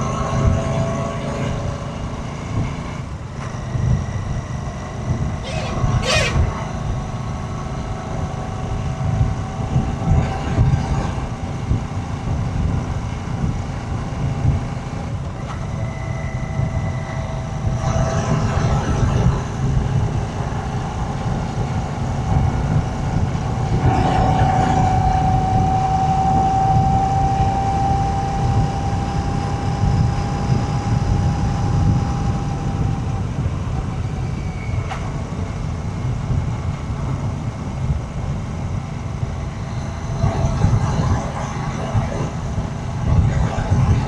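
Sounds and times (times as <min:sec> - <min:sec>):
rising engine whine: 0:00.0 - 0:44.0.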